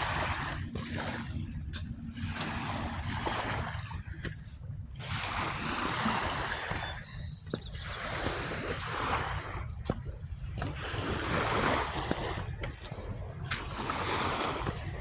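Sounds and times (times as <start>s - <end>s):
water washing on shore: 0.0s - 4.4s, 5.0s - 15.0s
wind rumble on microphone: 0.0s - 15.0s.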